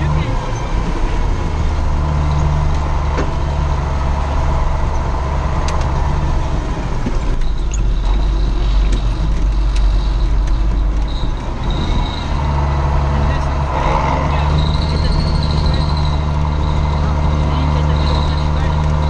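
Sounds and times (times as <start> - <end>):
tractor diesel engine drone: 0.0 - 19.0.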